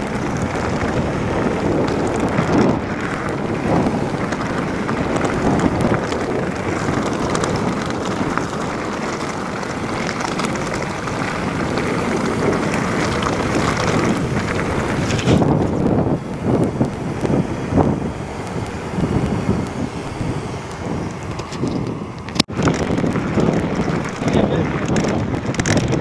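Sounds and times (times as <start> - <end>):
bike rattling: 0.0 - 26.0
tyres crunching on loose stones: 0.0 - 26.0
wind buffeting microphone: 0.0 - 26.0.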